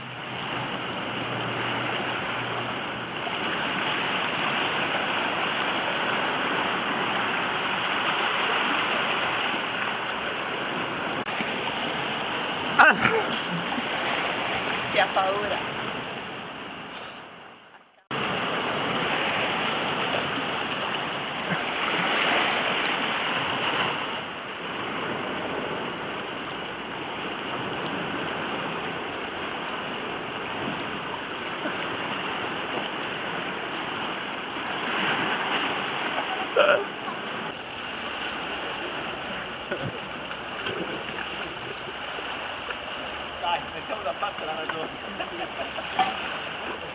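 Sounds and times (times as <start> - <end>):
surf washing against rocks: 0.0 - 46.9.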